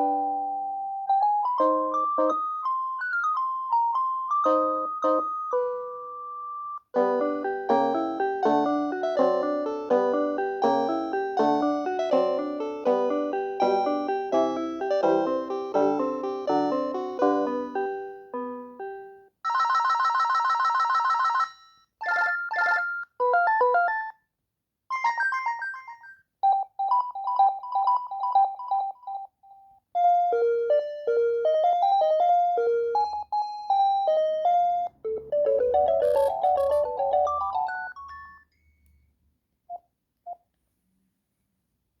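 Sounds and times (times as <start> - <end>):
phone ringtone melodies: 0.0 - 24.2, 24.9 - 29.3, 30.0 - 38.6.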